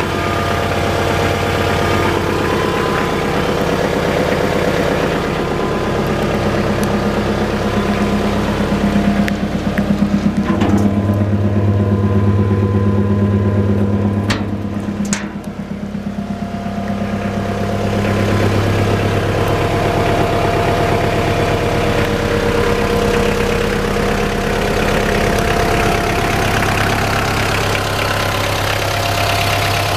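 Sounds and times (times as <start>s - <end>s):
tractor diesel engine idling: 0.0s - 29.9s.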